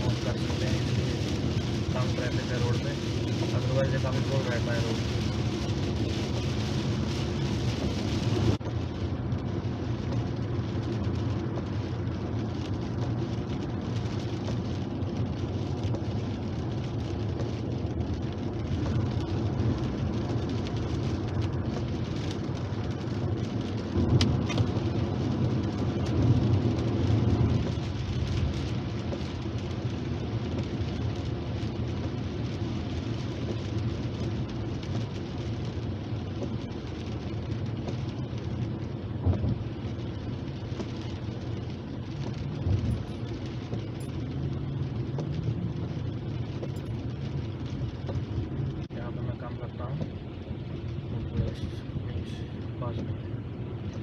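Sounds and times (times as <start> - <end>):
car engine running: 0.0 - 54.0
rain on windscreen: 0.0 - 54.0
tyre and road noise: 0.0 - 54.0.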